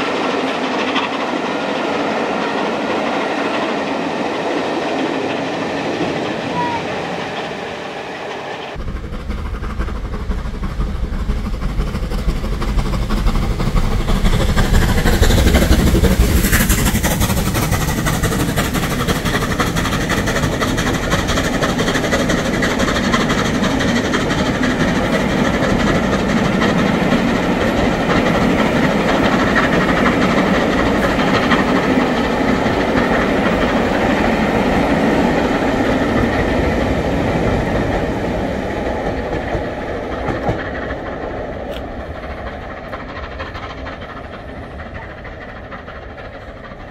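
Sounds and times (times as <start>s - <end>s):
steam locomotive working hard: 0.0s - 46.9s.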